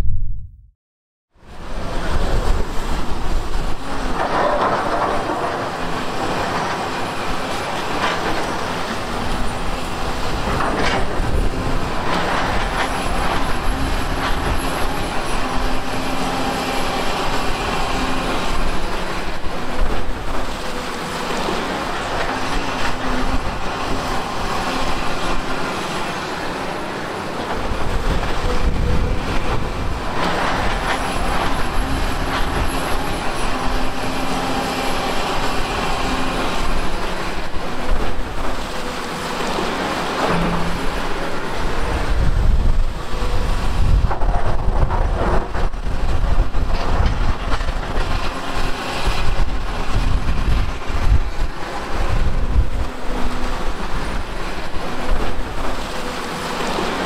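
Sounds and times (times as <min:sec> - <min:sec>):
diesel engine under load: 0:01.6 - 0:57.0.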